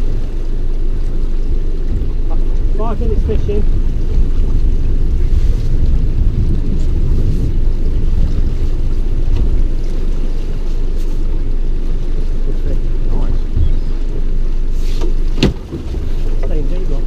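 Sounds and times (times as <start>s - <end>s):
waves washing around boat: 0.0s - 17.0s
wind buffeting microphone: 0.0s - 17.0s.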